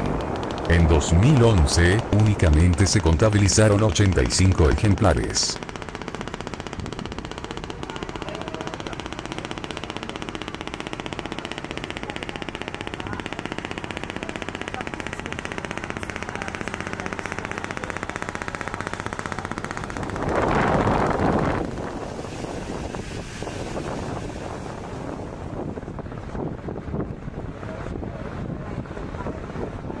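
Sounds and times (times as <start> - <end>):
boat engine chugging: 0.0 - 30.0.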